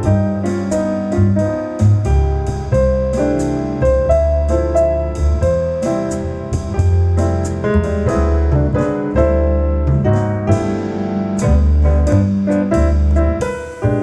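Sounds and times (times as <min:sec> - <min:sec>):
piano music over loudspeakers: 0:00.0 - 0:14.0.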